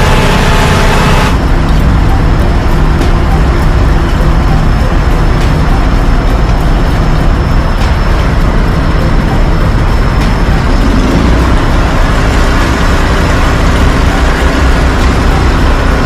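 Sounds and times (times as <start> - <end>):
fire truck engine running: 0.0 - 16.0.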